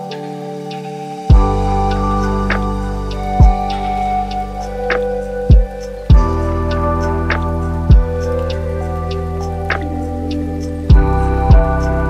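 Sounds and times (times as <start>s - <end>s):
sustained synthesizer chords: 0.0s - 12.0s.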